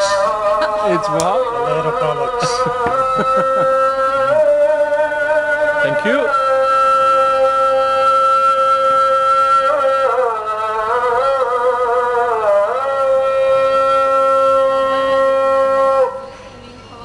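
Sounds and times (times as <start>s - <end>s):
muezzin chanting call to prayer: 0.0s - 17.0s.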